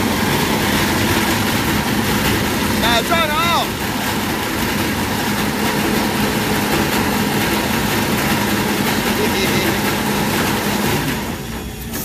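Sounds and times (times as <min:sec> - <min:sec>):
farm machinery engine running: 0:00.0 - 0:12.0.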